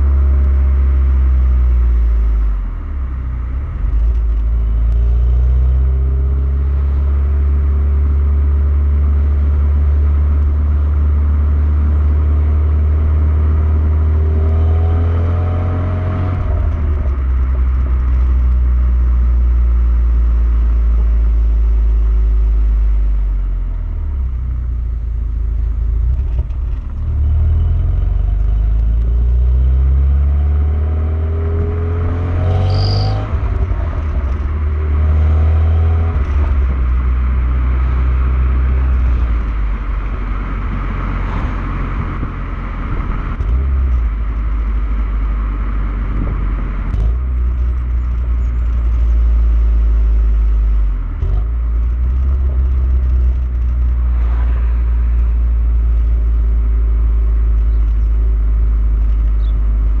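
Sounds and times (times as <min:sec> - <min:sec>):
car engine and exhaust revving: 0:00.0 - 1:00.0.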